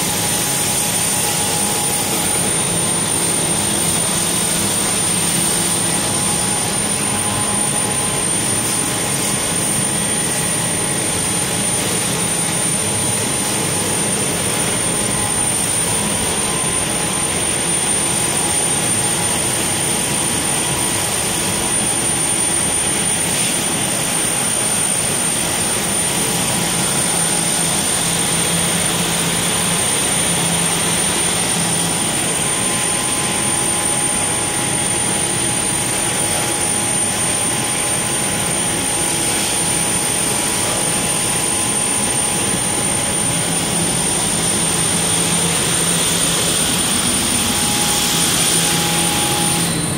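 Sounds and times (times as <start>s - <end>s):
high-pitched whine: 0.0s - 49.9s
machine whirring: 0.0s - 49.9s.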